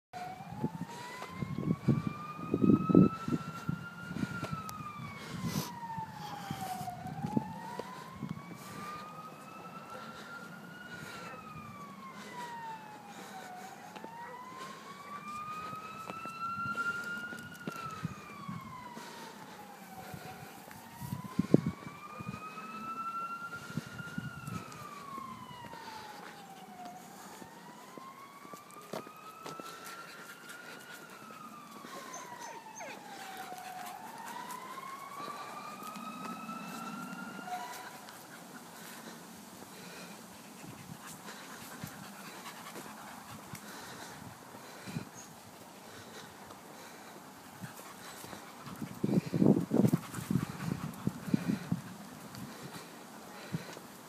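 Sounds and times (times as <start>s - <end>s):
siren wailing: 0.2s - 53.8s.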